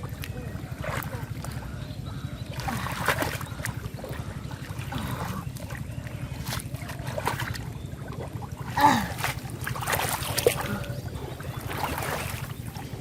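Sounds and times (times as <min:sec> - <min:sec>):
steady low hum: 0:00.0 - 0:13.0
water splashing and sloshing: 0:00.0 - 0:13.0.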